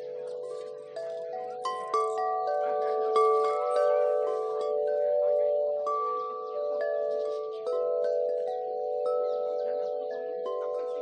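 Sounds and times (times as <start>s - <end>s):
metal wind chimes ringing: 0.0s - 11.0s.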